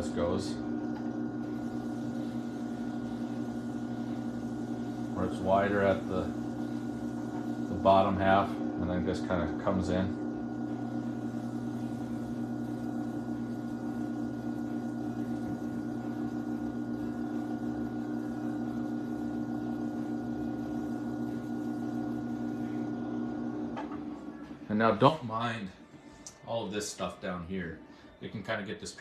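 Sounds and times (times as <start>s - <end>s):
potter's wheel motor humming: 0.0s - 27.4s.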